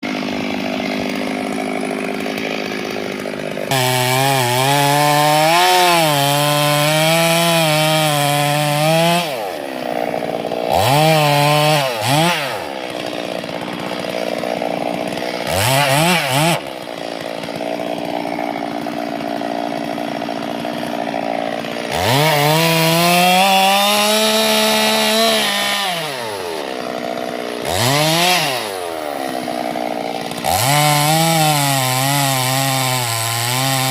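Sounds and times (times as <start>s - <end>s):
chainsaw cutting wood: 0.0s - 33.9s
chainsaw idling and revving: 0.0s - 33.9s.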